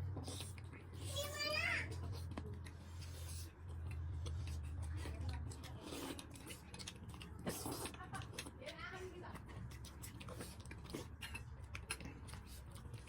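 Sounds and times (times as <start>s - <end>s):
person chewing food: 0.0s - 1.1s, 1.8s - 13.0s.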